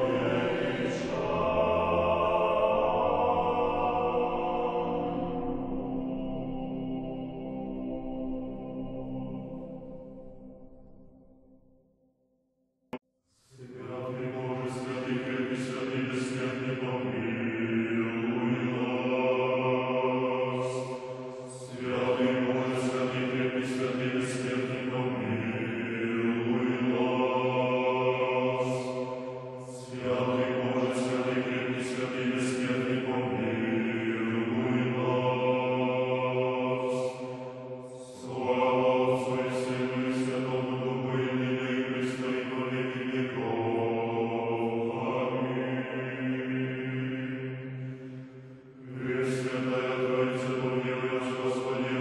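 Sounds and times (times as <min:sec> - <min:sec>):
men's choir singing a cappella: 0:00.0 - 0:09.6, 0:13.6 - 0:52.0.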